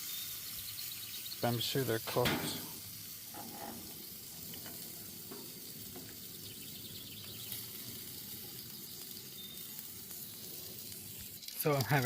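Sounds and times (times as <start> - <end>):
meat sizzling and popping: 0.0 - 12.0.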